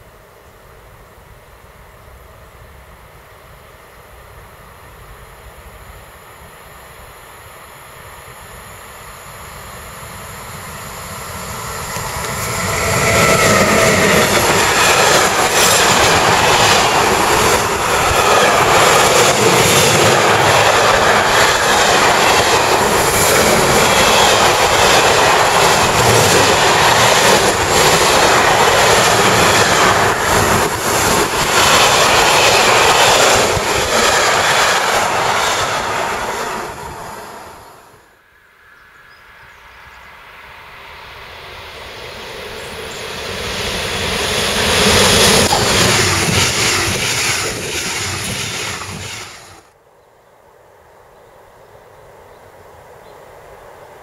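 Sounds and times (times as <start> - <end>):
freight train passing at speed: 0.0 - 49.8, 50.4 - 54.0.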